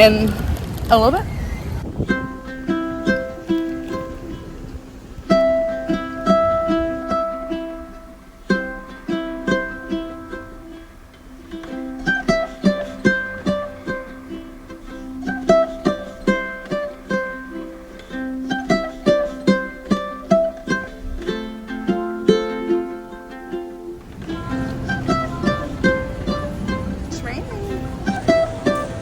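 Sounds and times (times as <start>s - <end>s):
plucked ukulele melody: 1.8s - 29.0s.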